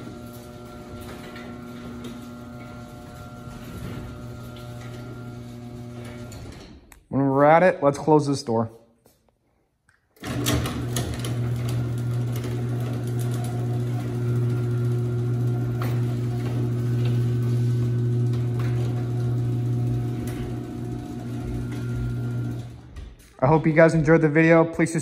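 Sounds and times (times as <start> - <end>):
garage door opener motor hum: 0.0 - 6.9, 10.2 - 23.8.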